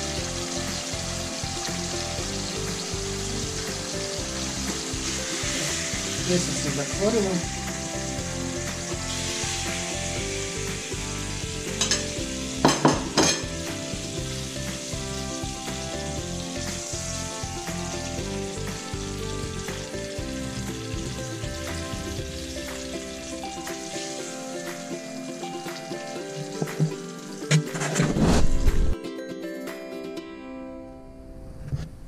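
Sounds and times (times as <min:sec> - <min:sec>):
steaks sizzling in oil: 0:00.0 - 0:27.5.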